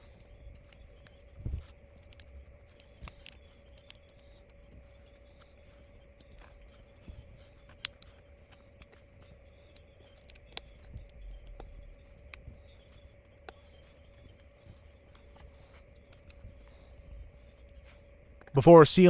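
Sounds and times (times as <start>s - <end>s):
small tools clicking and tapping: 0.0s - 18.6s
faint steady hum: 0.0s - 19.0s.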